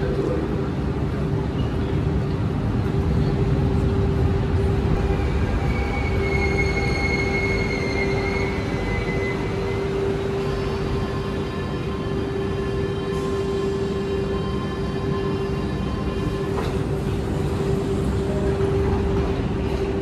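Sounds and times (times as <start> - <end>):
train equipment low rumble and hum: 0.0 - 20.0.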